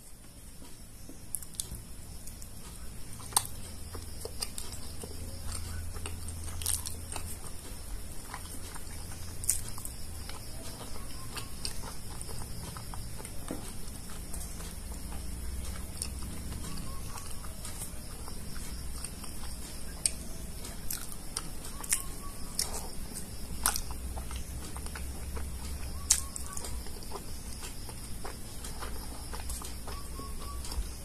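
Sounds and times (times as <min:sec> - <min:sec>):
low hum: 0:00.0 - 0:31.0
wet chewing: 0:01.3 - 0:31.0.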